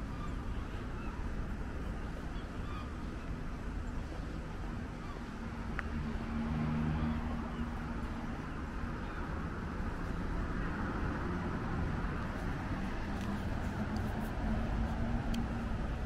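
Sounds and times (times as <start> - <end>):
city street traffic: 0.0 - 16.0
vehicle engine hum: 0.0 - 16.0.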